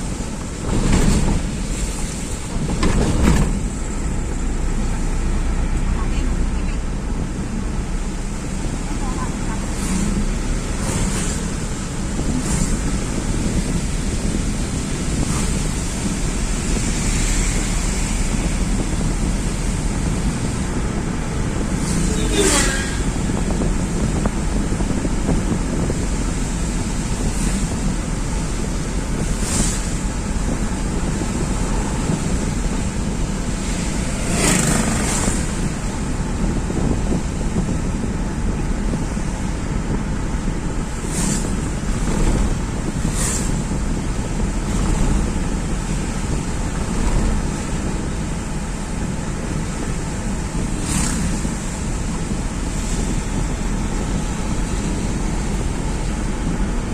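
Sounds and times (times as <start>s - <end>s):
road and wind noise from vehicle: 0.0s - 56.9s.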